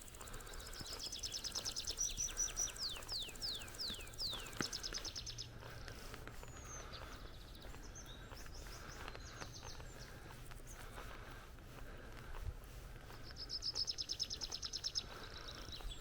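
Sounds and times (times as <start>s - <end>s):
small birds trilling and chirping: 0.0s - 16.0s.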